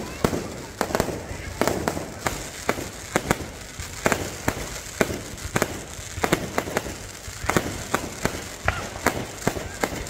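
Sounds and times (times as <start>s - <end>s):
fireworks bangs and pops: 0.0s - 10.0s
fireworks crackling: 0.0s - 10.0s.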